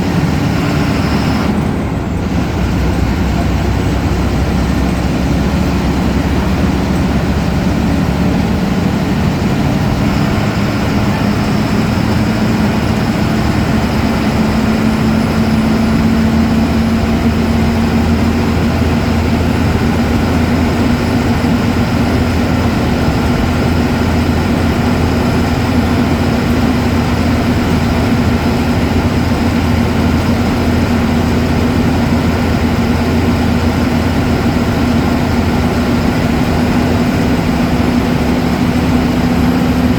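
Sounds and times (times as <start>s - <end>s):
diesel bus engine droning: 0.0s - 39.9s.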